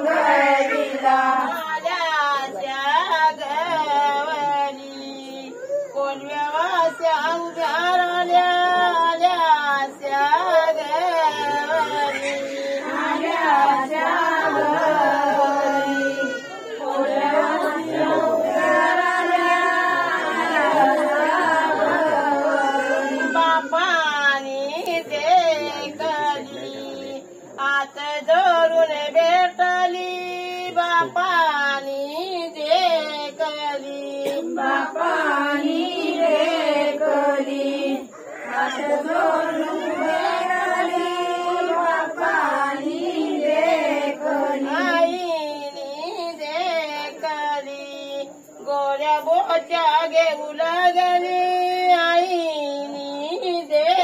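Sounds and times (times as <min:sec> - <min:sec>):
women and girls chanting: 0:00.0 - 0:31.2, 0:32.4 - 0:54.0
women singing unaccompanied: 0:00.0 - 0:54.0.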